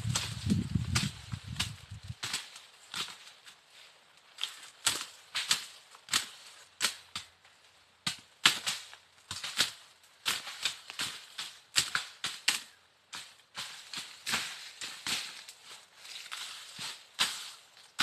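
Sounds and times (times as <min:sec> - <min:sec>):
machete chopping through grass: 0:00.1 - 0:03.3, 0:04.8 - 0:07.2, 0:08.1 - 0:15.5, 0:16.2 - 0:18.0.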